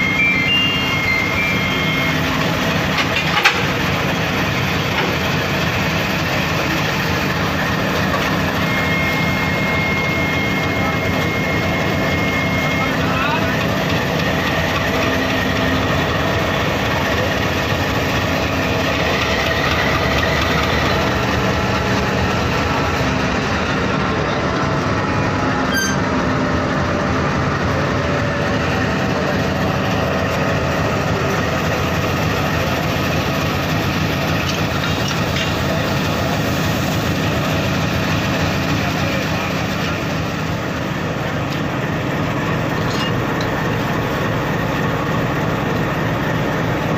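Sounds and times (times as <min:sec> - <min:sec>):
diesel locomotive idling: 0:00.0 - 0:46.9.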